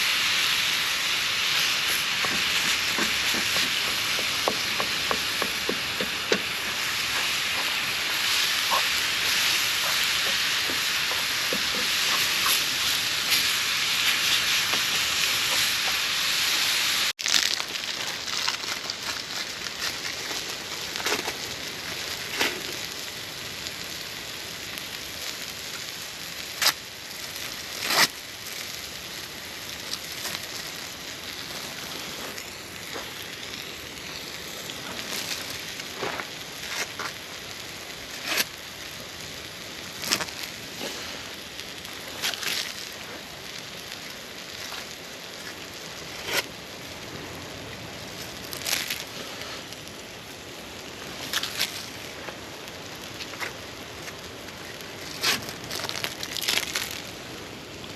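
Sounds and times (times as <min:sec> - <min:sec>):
campfire crackling and popping: 0:00.0 - 0:57.9
steady fire hiss: 0:00.0 - 0:57.9.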